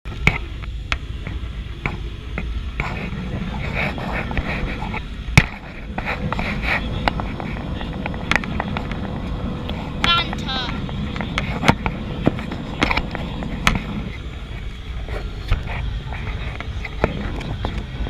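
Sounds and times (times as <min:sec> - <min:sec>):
low rumble of engines and airflow: 0:00.1 - 0:18.0.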